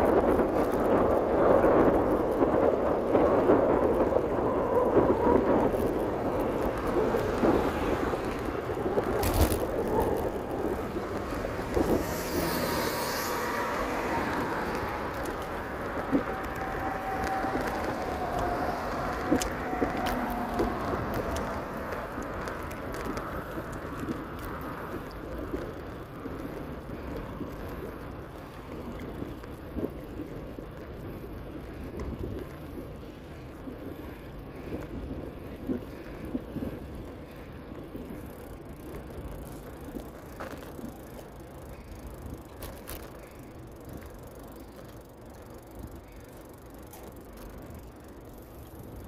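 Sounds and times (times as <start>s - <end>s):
bicycle road noise: 0.0s - 49.0s
wind noise: 0.0s - 49.0s.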